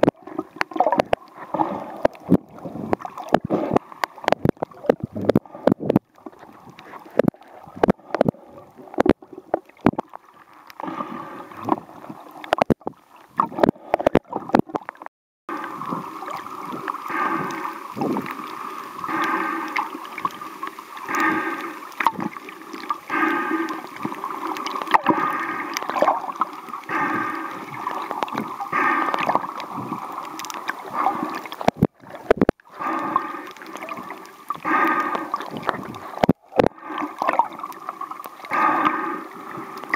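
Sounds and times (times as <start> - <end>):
underwater clicks and crackles: 0.0 - 39.9
water moving against camera: 0.0 - 39.9.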